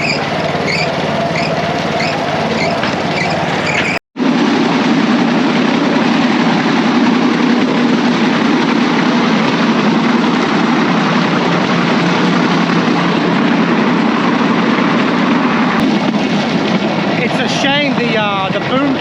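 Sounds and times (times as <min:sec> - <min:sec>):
rushing noise of rail travel: 0:00.0 - 0:19.0.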